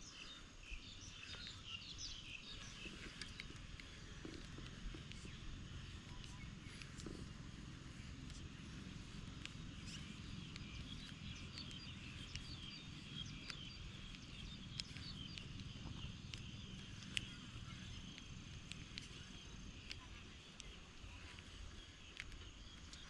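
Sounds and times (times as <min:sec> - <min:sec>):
bird chirps and twittering: 0:00.0 - 0:23.0
low wind-like rumble: 0:00.0 - 0:23.0.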